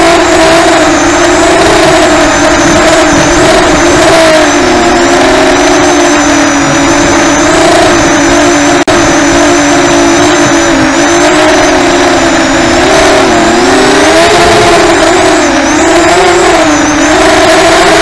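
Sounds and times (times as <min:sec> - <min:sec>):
quadcopter motors buzzing whine: 0:00.0 - 0:18.0.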